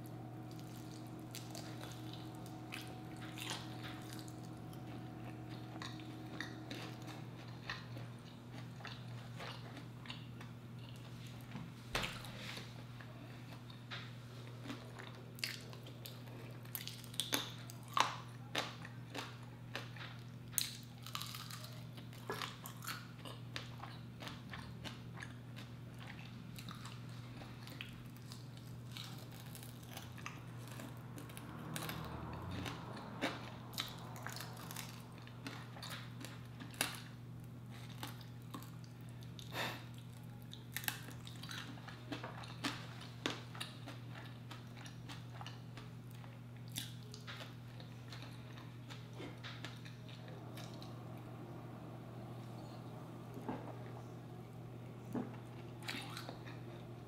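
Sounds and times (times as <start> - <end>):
steady low hum: 0.0 - 57.0
chewing chicken wings: 0.4 - 57.0.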